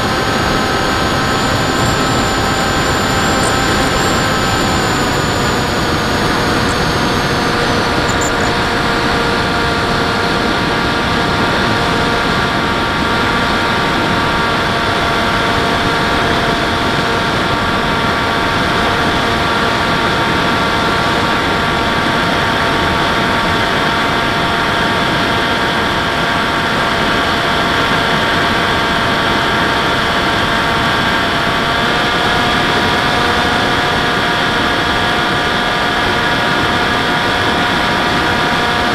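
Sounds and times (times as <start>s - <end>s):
model airplane motor whine: 0.0s - 38.9s.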